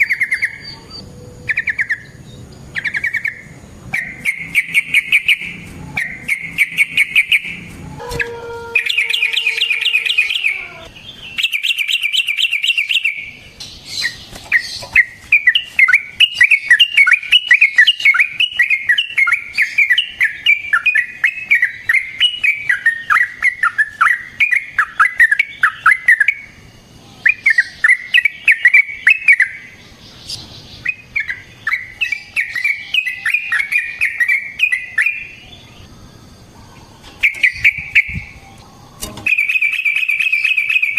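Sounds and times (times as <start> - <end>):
bird singing chattering phrases: 0.0 - 36.3, 37.0 - 38.4, 39.3 - 40.9.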